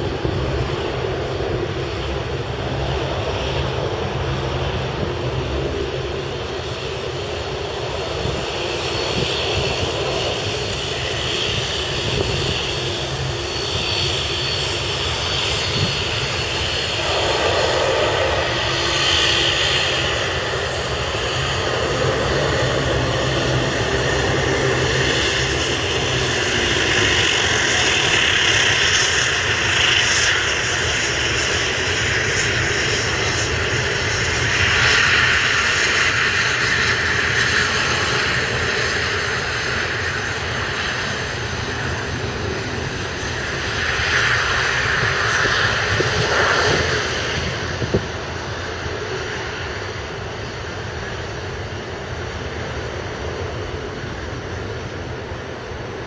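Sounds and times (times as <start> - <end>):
jet engines whining at low thrust: 0.0 - 56.0.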